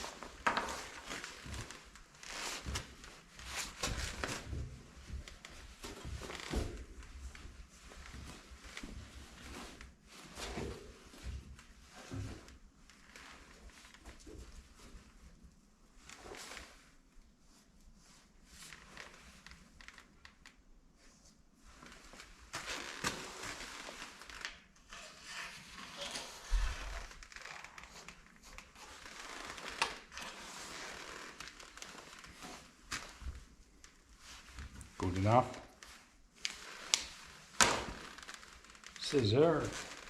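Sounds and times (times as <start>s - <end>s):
material rustling and crinkling: 0.0s - 40.0s.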